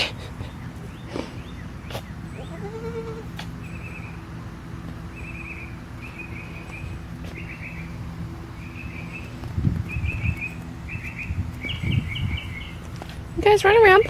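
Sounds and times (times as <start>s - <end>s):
low rumbling noise: 0.0s - 14.0s
songbirds chirping: 0.0s - 14.0s
steady low hum: 0.0s - 14.0s.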